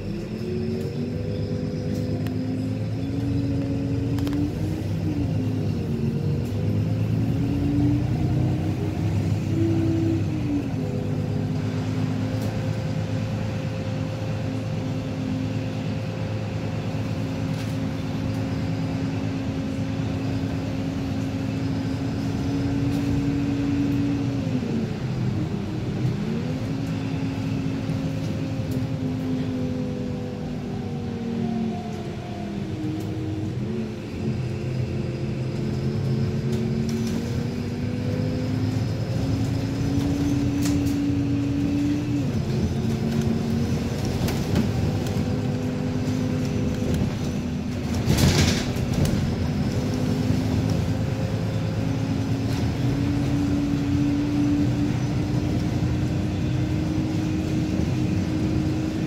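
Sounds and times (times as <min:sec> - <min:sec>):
bus engine hum and whine: 0:00.0 - 0:59.0.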